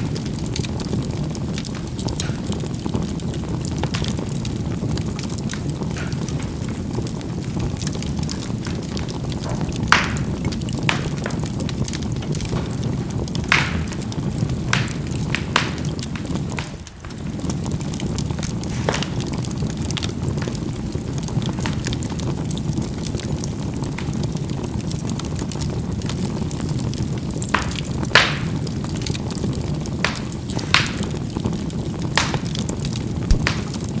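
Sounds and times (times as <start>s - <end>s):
charcoal popping and crackling: 0.0s - 34.0s
fire rumbling: 0.0s - 34.0s.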